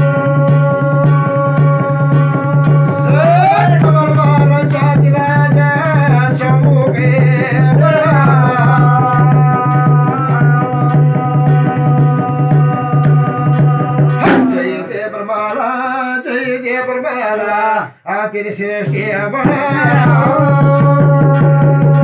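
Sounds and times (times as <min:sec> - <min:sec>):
hand drum beat: 0:00.0 - 0:15.2, 0:18.9 - 0:22.0
folk singing: 0:00.0 - 0:22.0.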